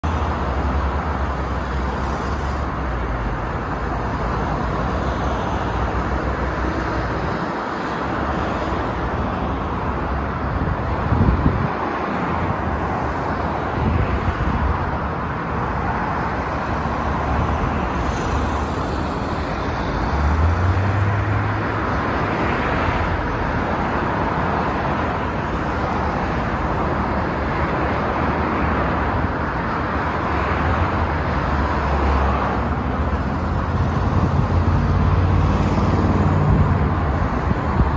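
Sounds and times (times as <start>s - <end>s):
highway traffic: 0.0s - 37.9s
low rumble of passing vehicles: 0.0s - 37.9s.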